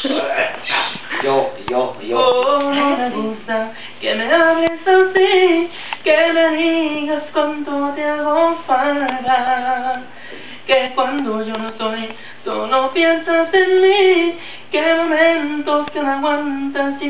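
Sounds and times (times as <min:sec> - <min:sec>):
person singing a cappella: 0:00.0 - 0:17.0.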